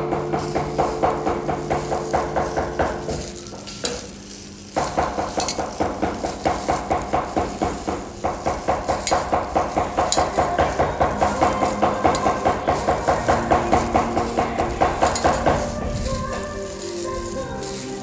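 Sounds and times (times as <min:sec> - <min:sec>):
gloved hand squishing food: 0:00.0 - 0:18.0.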